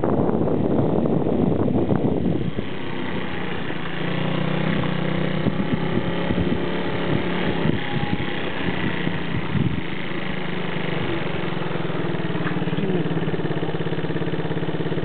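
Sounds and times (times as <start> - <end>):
wind buffeting microphone: 0.0 - 14.9
motorbike engine running: 0.0 - 15.0.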